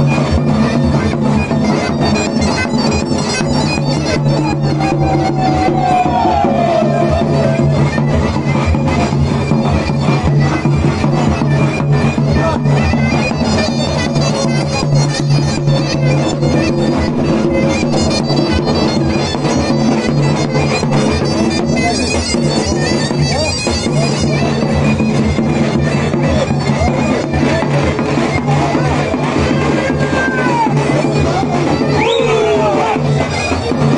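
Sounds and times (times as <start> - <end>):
big drum beat: 0.0 - 33.9
reedy double-reed melody: 0.0 - 33.9.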